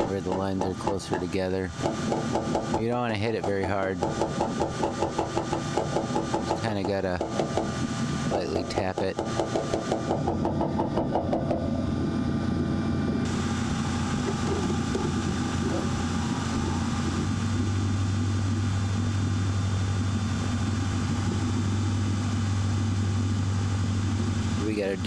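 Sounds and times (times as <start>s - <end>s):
motor drone with low hum: 0.0s - 25.0s.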